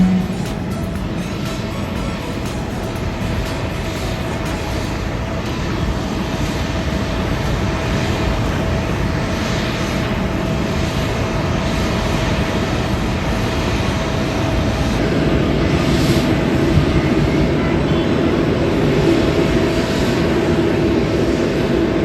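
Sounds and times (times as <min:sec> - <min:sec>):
jet airliner engines droning: 0:00.0 - 0:22.0.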